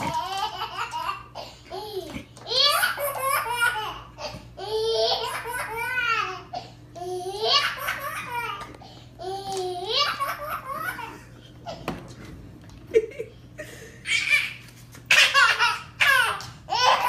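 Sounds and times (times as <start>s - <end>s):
baby laughing: 0.0s - 11.9s, 14.0s - 17.0s.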